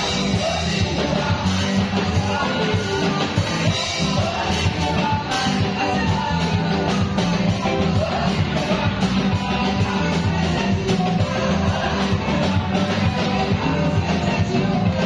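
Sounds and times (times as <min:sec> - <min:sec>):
choir and lead singer singing: 0:00.0 - 0:15.0
live band with keyboard: 0:00.0 - 0:15.0.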